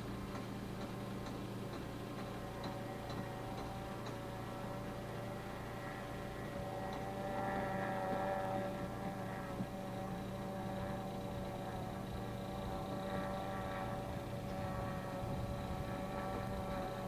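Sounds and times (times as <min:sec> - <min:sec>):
electric boat motor whine: 0:00.0 - 0:17.0.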